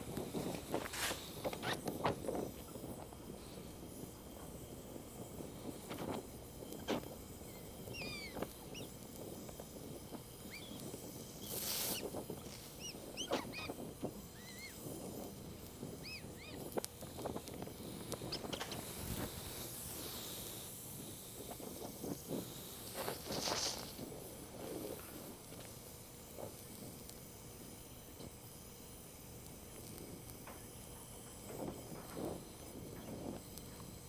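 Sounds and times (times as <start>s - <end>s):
gas torch flame hissing: 0.0s - 34.0s
sharp pops and crackles: 0.0s - 34.0s.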